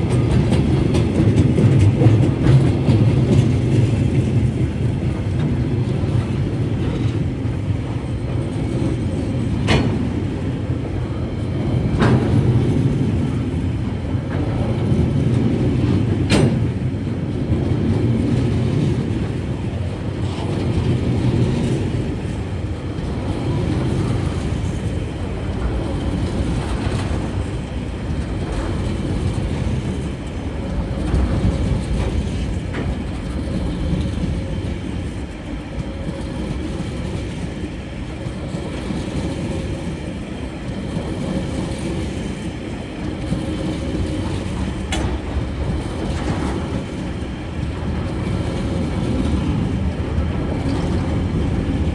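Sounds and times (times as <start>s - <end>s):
diesel freight train rumbling: 0.0s - 51.9s.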